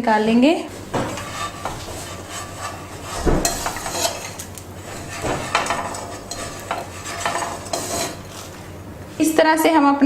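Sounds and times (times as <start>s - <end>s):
spatula scraping and knocking on pan: 0.7s - 8.8s.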